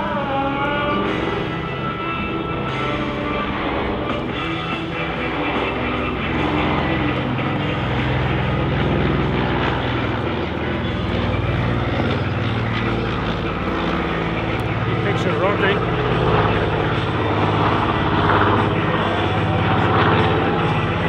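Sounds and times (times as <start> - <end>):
propeller aircraft engines droning: 0.0 - 21.0.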